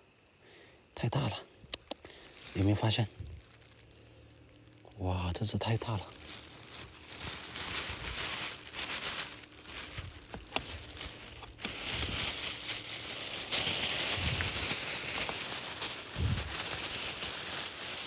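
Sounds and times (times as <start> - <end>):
plastic bag crinkling: 1.7 - 18.0.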